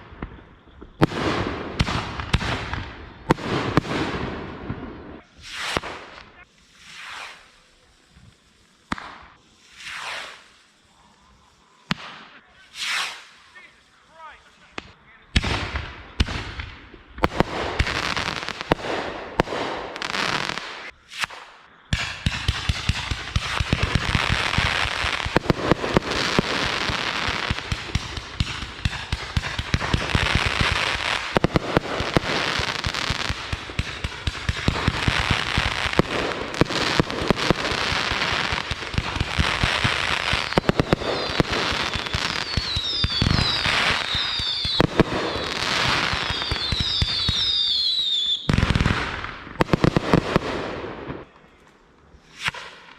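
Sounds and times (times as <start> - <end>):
firework bangs: 0.0 - 10.9, 11.8 - 51.4.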